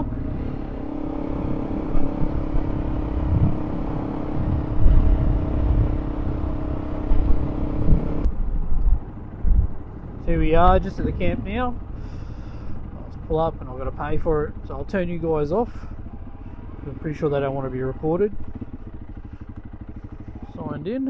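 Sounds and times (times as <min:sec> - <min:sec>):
motorcycle engine running: 0:00.0 - 0:21.0
wind rumble on microphone: 0:00.0 - 0:21.0.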